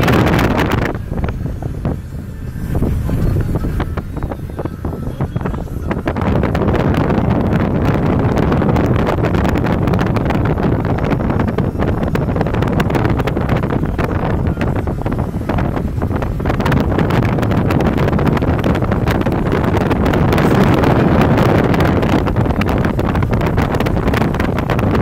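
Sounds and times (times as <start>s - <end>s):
road and vehicle noise: 0.0s - 25.0s
wind buffeting microphone: 0.0s - 25.0s.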